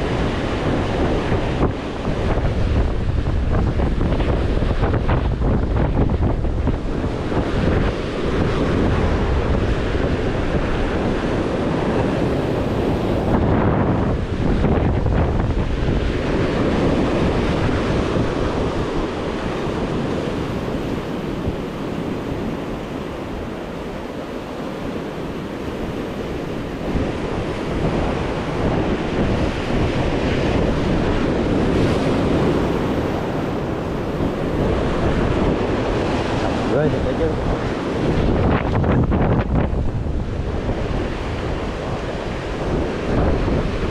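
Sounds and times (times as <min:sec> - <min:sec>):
sea waves surging on shore: 0:00.0 - 0:43.9
wind buffeting microphone: 0:00.0 - 0:43.9.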